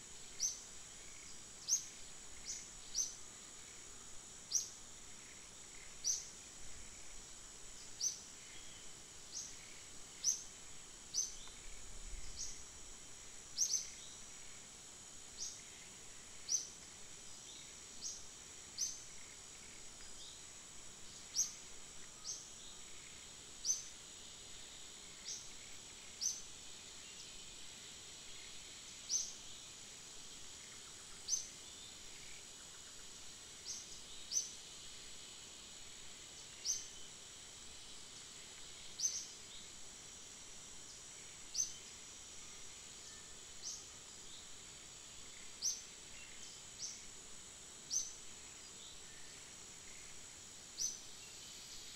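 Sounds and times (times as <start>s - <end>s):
insect drone: 0.0s - 51.9s.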